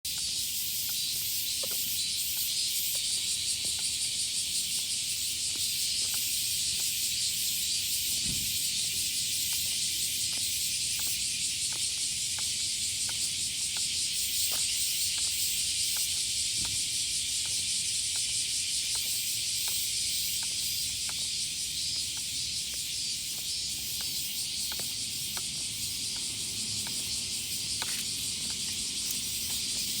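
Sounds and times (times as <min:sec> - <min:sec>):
cicadas singing: 0:00.1 - 0:30.0.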